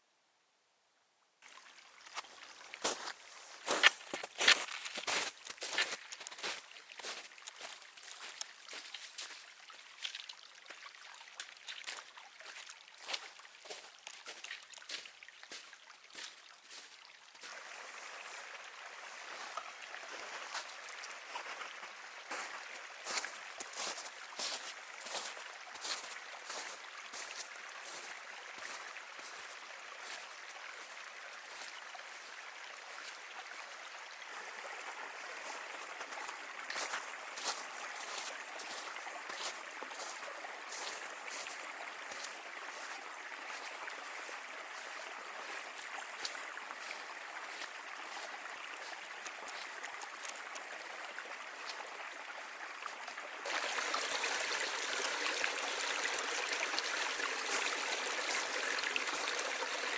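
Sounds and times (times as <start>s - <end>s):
stream water flowing: 1.4s - 59.9s.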